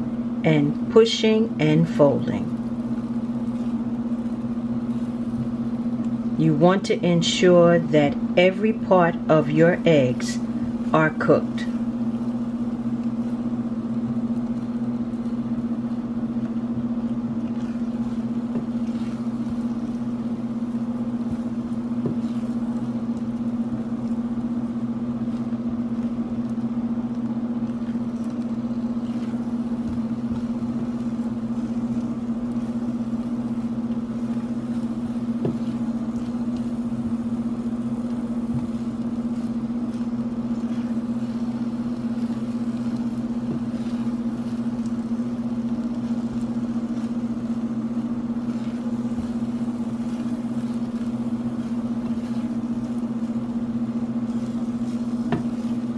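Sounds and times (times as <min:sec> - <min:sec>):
low electrical appliance hum: 0:00.0 - 0:55.9.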